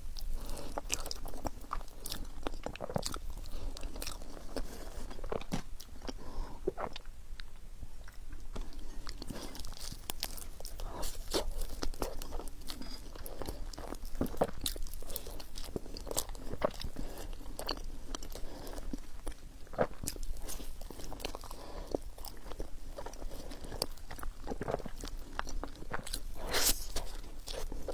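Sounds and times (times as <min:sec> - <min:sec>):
person chewing bread: 0:00.0 - 0:27.9.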